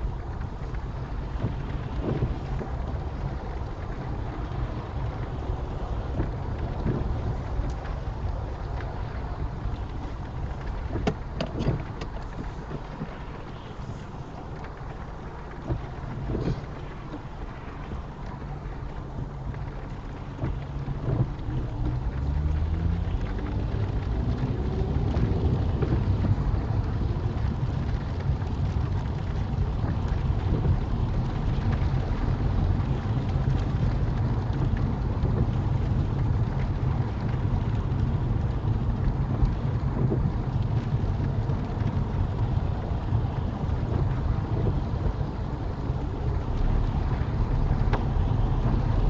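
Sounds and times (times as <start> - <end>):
car engine accelerating: 0.0 - 49.0
low road rumble: 0.0 - 49.0
rain hitting windscreen: 0.0 - 49.0.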